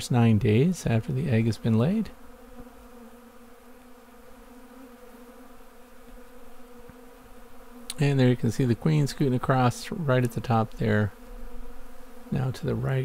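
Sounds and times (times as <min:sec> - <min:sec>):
honey bees humming: 0:00.0 - 0:13.0.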